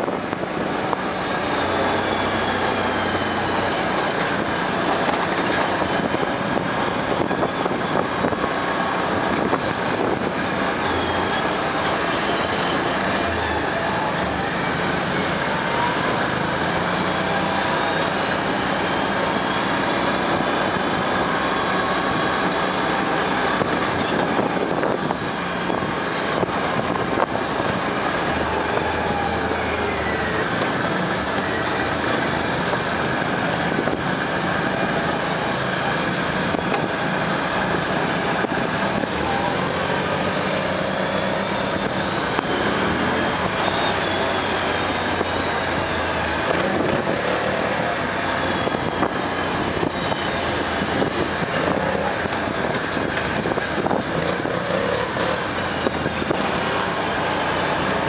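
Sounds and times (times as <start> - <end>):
atv engines running: 0.0 - 58.0.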